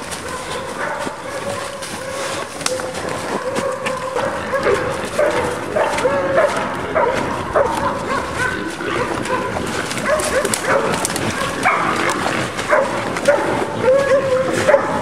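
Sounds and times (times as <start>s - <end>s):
dogs barking and baying: 0.0s - 15.0s
footsteps running through dry leaves: 0.0s - 15.0s.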